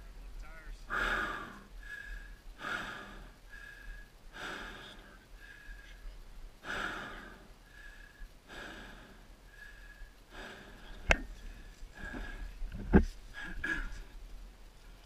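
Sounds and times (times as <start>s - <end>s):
person breathing heavily: 0.9s - 14.1s.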